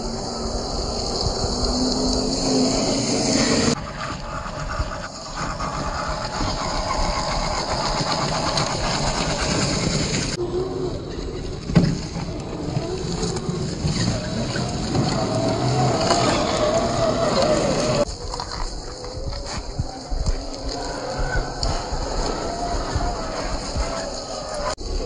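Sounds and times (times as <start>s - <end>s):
rc car motors whining: 0.0s - 25.0s.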